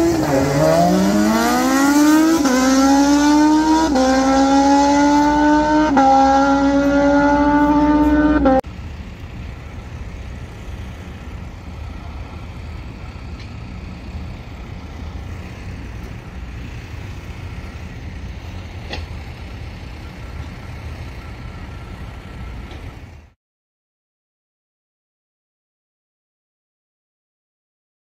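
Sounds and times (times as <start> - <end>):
vehicle engines rumbling: 0.0 - 23.4.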